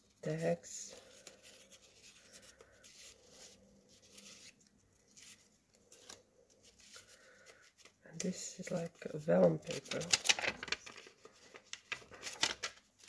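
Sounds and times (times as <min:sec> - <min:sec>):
paper rustling and sliding: 0:00.9 - 0:08.0, 0:09.4 - 0:13.0.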